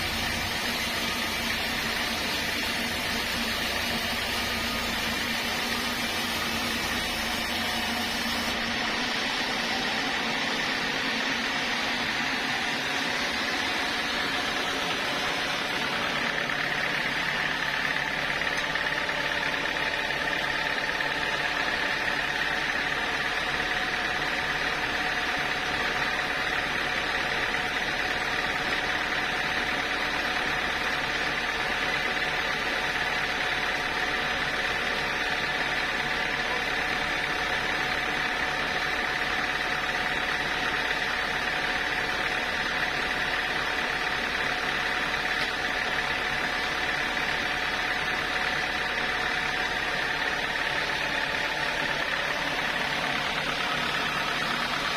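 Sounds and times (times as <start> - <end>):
sawmill saw machinery whine: 0.0 - 54.9.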